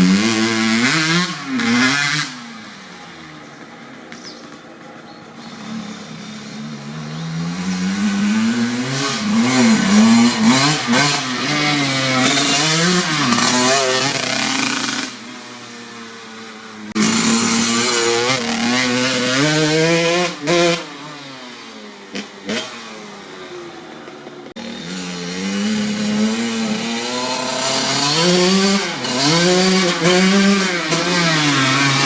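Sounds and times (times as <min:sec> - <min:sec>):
dirt bike engine revving: 0:00.0 - 0:03.2, 0:05.4 - 0:32.0.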